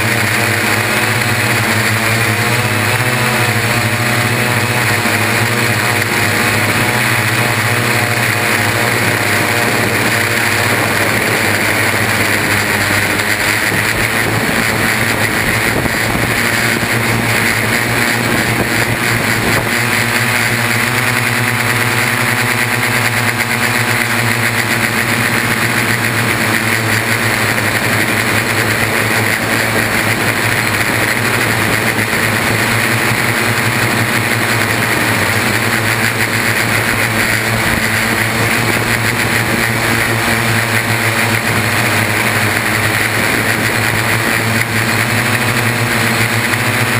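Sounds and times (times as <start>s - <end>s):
drone motors whining: 0.0s - 46.9s.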